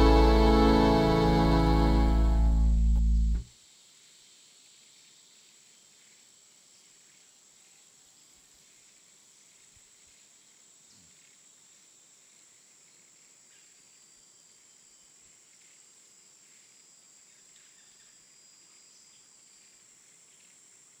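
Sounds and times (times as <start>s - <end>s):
faint outdoor ambience: 0.0s - 21.0s
crickets chirping: 3.5s - 21.0s.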